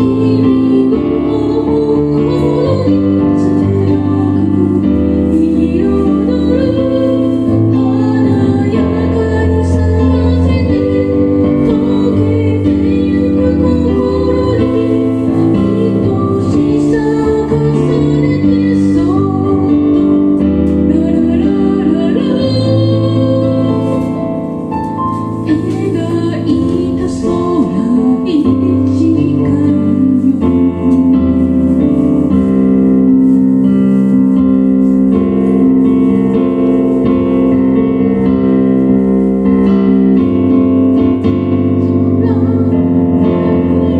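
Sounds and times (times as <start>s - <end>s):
keyboard chords: 0.0s - 43.9s
person singing: 0.0s - 43.9s.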